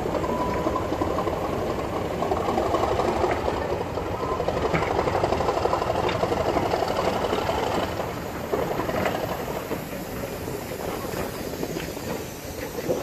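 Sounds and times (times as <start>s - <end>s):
train coaches rolling past: 0.0s - 13.0s.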